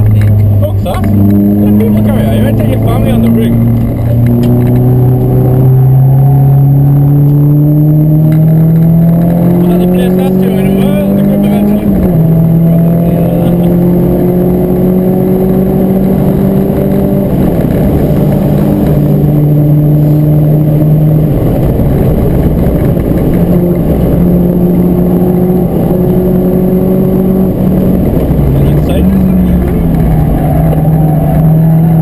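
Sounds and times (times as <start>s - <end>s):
car engine running at speed: 0.0s - 32.0s.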